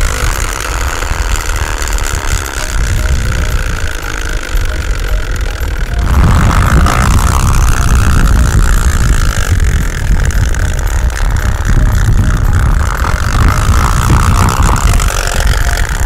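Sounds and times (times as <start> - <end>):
plastic jar buzzing on wheel: 0.0 - 16.0.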